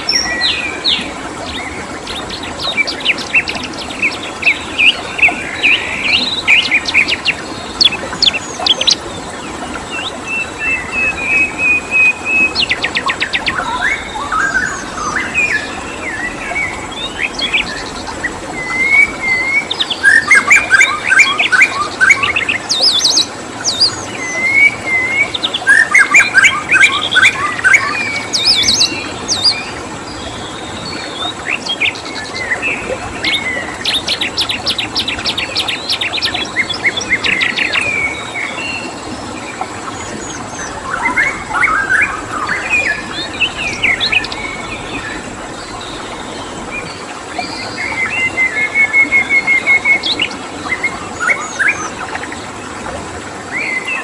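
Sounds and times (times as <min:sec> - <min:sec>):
songbirds chirping and singing: 0:00.0 - 0:52.6
steady background hiss: 0:00.0 - 0:54.0.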